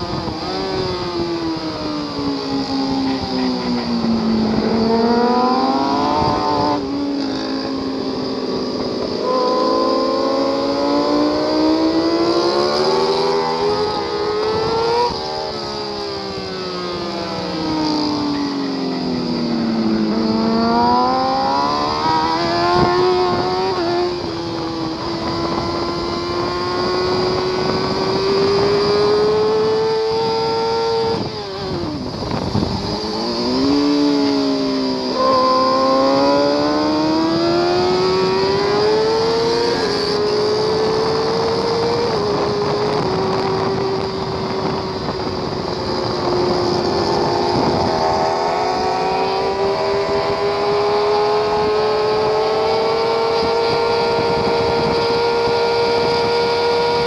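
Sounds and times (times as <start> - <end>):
wind noise rushing: 0.0 - 18.3, 19.2 - 57.0
motorcycle engine at high revs: 0.0 - 57.0.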